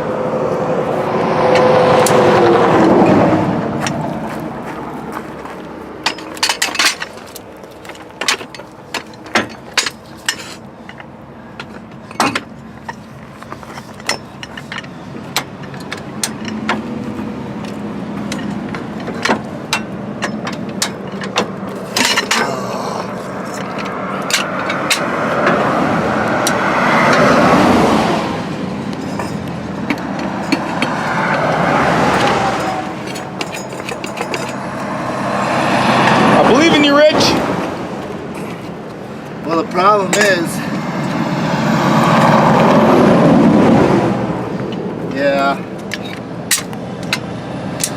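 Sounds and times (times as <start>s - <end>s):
vehicle passing by: 0.0s - 8.2s, 14.7s - 47.9s
knocks and clanks on tire and wheel: 0.0s - 47.9s.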